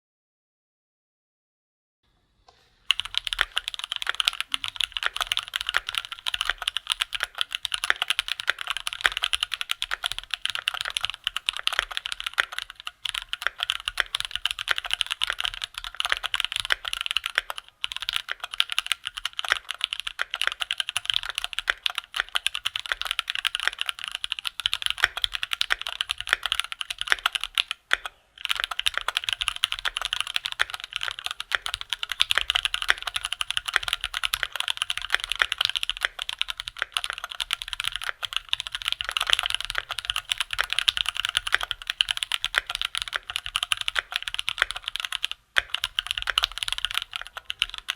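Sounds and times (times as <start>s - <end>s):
mechanical keyboard typing: 2.9s - 47.9s.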